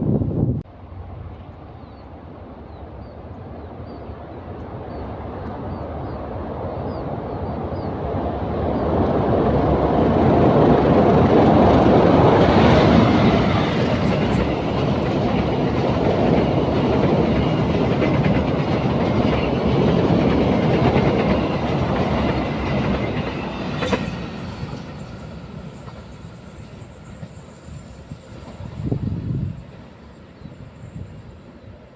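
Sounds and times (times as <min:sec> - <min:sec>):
train rumble and wheel clatter: 0:00.0 - 0:31.9.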